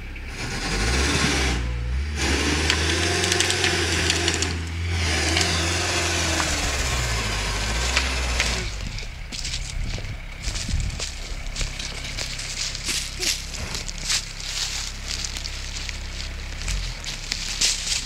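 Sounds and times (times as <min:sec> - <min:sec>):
engine running under load: 0:00.0 - 0:18.0.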